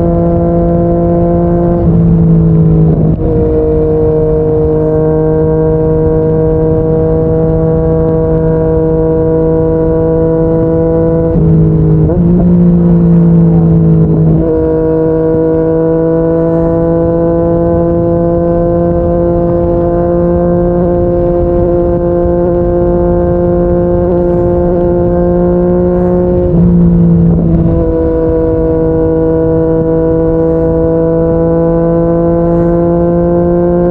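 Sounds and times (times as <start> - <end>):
motorcycle engine cruising: 0.0 - 33.9
wind rumble: 0.0 - 33.9.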